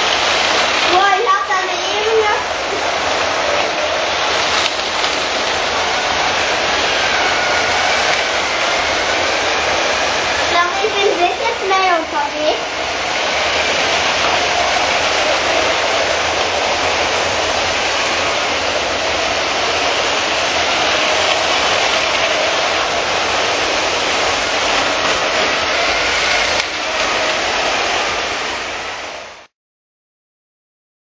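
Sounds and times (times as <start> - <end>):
toy train motors whirring: 0.0 - 29.5.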